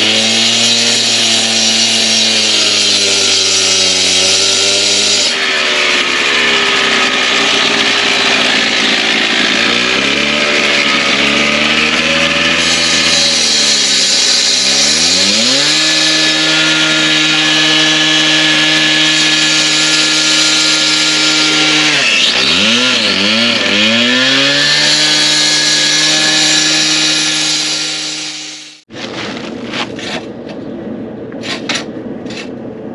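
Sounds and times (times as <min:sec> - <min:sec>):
concrete saw cutting: 0:00.0 - 0:29.2.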